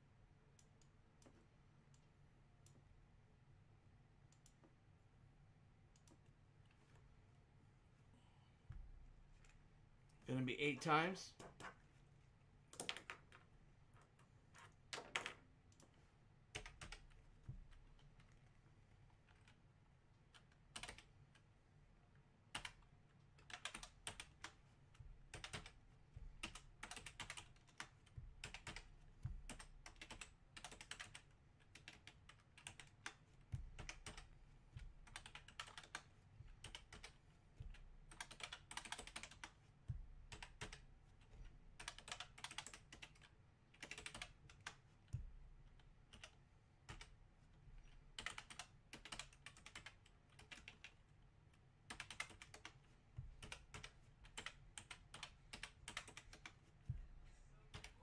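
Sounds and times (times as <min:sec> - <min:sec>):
faint keyboard typing: 0:00.4 - 0:02.9, 0:04.2 - 0:05.0, 0:05.6 - 0:07.4, 0:08.2 - 0:58.0.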